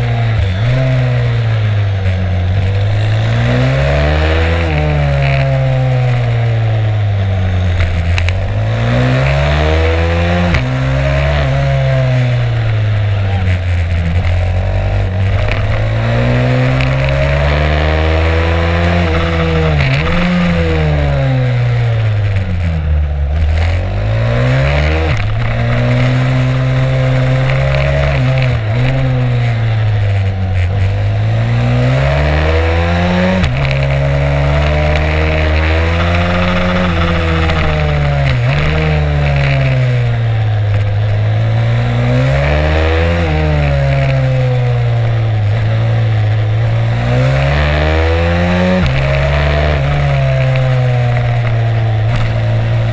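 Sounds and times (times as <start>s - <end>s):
motorbike engine revving: 0.0s - 52.9s.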